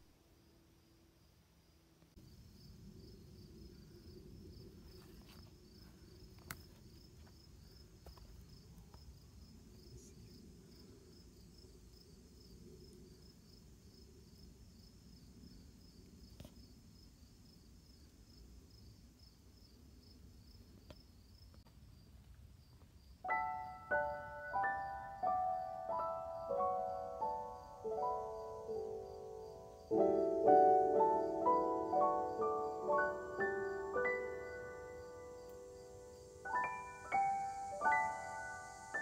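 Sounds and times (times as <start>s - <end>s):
insects chirping: 0.0s - 39.0s.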